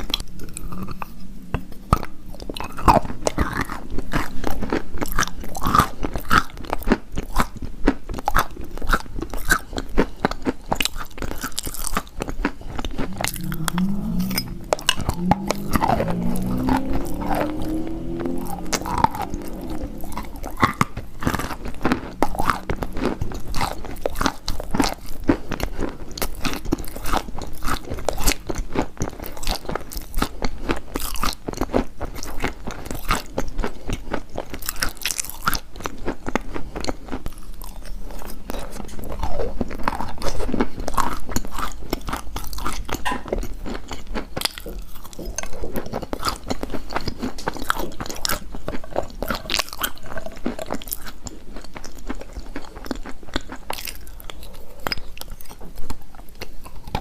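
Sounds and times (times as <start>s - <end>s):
person chewing crunchy chalk: 0.0s - 57.0s.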